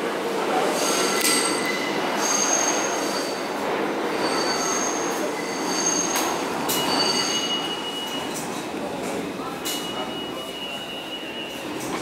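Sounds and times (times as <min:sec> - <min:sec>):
train wheels squealing: 0:00.8 - 0:08.6, 0:09.6 - 0:12.0.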